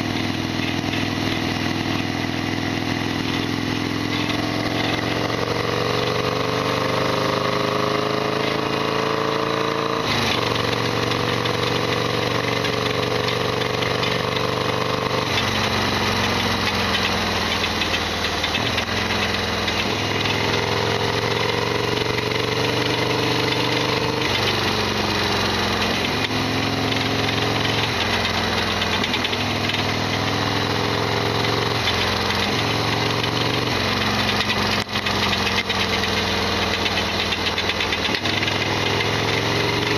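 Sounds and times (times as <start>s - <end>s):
loud engine rattling: 0.0s - 39.9s
motorcycle engine revving: 0.0s - 39.9s.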